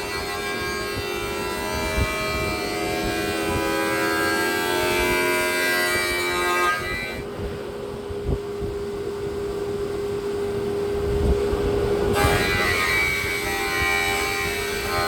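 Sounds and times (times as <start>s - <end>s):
machine whining and rumbling: 0.0s - 15.0s.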